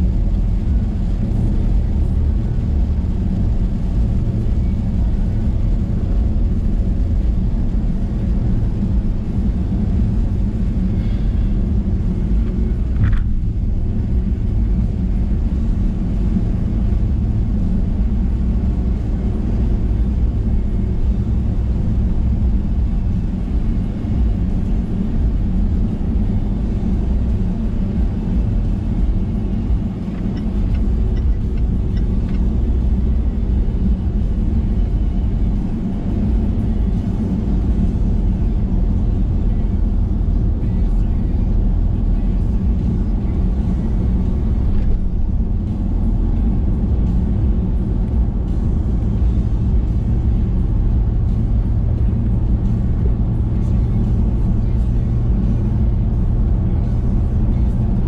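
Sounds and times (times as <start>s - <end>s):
car driving on wet road: 0.0s - 58.0s.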